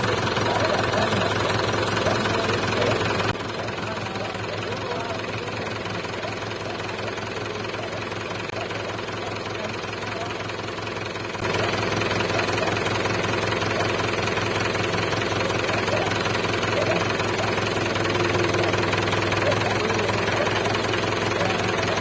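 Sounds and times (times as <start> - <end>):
vehicle engine chugging: 0.0 - 22.0.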